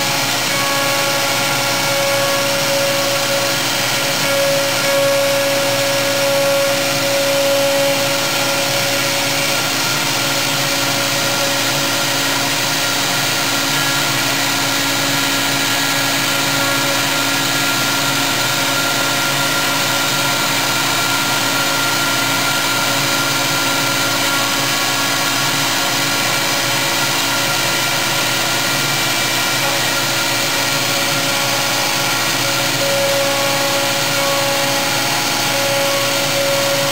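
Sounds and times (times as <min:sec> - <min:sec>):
end mill cutting block: 0:00.0 - 0:36.9
router spindle whine: 0:00.0 - 0:36.9
stronger machine tone: 0:00.0 - 0:36.9.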